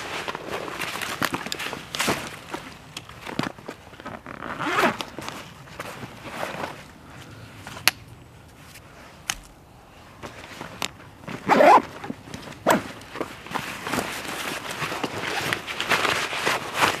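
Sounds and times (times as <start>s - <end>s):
pack fabric and dry leaves rustling: 0.0s - 7.8s, 10.0s - 17.0s.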